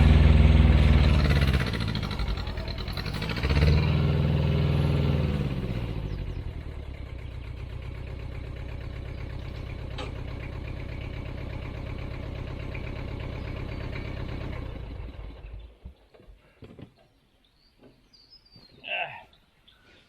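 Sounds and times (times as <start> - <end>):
tractor engine idling: 0.0 - 16.3.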